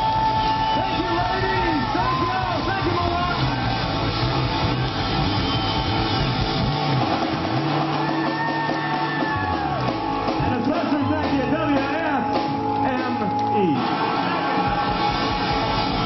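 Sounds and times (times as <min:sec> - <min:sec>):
bass guitar: 0:00.0 - 0:16.0
electric guitar: 0:00.0 - 0:16.0.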